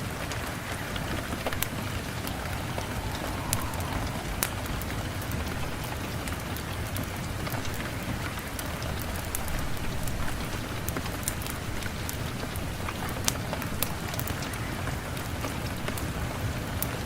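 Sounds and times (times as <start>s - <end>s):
steady rain falling: 0.0s - 17.0s
wood fire crackling and popping: 0.6s - 16.2s.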